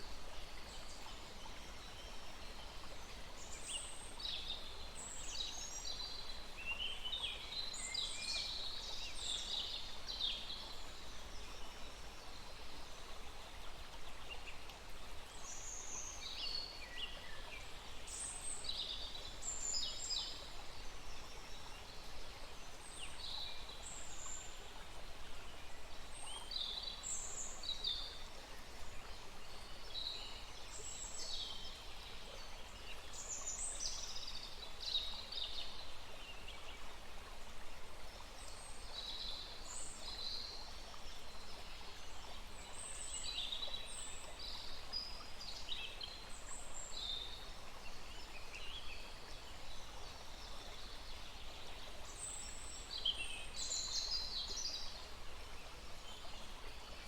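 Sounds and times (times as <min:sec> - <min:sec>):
small stream running: 0:00.0 - 0:57.0.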